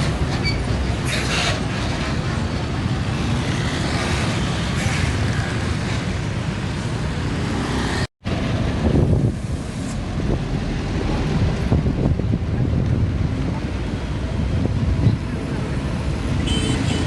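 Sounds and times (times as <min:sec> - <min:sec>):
heavy vehicles passing: 0:00.0 - 0:17.0.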